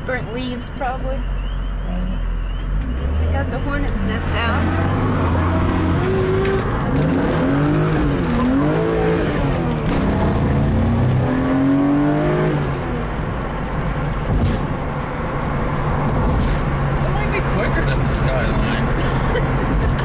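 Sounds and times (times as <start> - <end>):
road and tyre noise: 0.0 - 20.0
car engine accelerating: 1.1 - 20.0.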